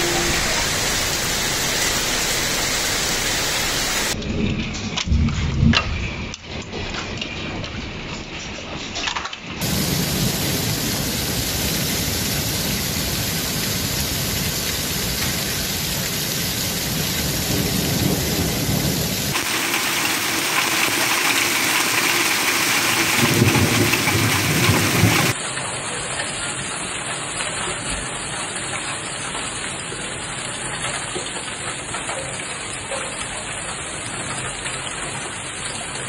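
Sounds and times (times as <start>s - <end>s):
heavy rain and hail: 0.0s - 36.0s.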